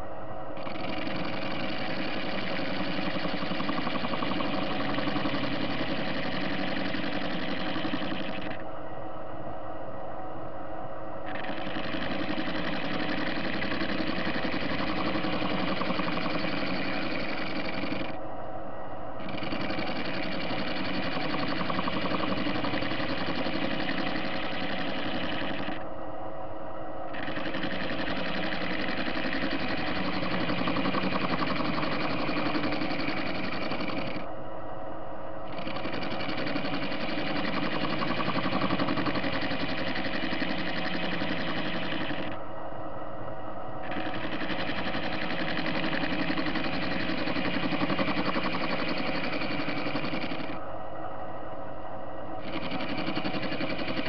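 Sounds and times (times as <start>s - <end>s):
lathe running: 0.6s - 8.6s, 11.3s - 18.2s, 19.2s - 25.8s, 27.1s - 34.3s, 35.5s - 42.4s, 43.8s - 50.6s, 52.4s - 54.0s.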